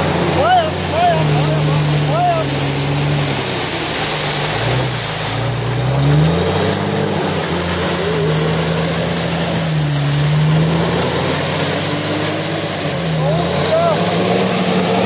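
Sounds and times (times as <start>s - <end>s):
engine revving hard: 0.0s - 15.0s
tyres spinning in snow: 0.0s - 15.0s.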